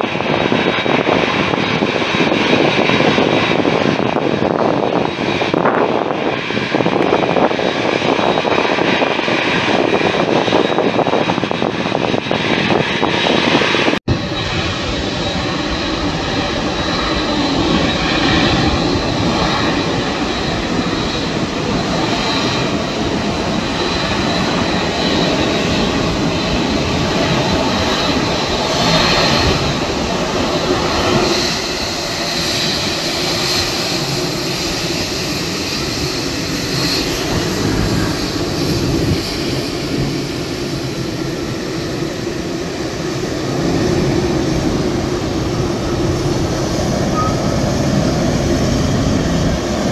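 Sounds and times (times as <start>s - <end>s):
jet engines rumbling with whine: 0.0s - 49.9s.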